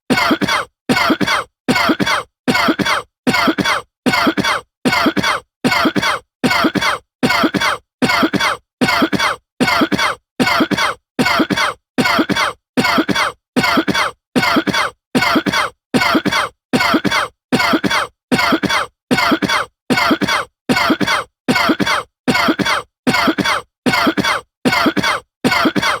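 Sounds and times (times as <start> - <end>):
man coughing: 0.1 - 26.0.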